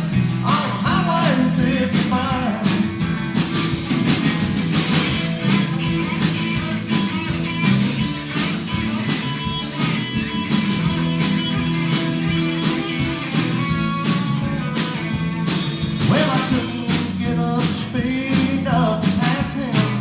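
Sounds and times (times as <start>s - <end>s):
bass guitar: 0.0s - 20.0s
drum kit steady beat: 0.0s - 20.0s
electric guitar: 0.0s - 20.0s.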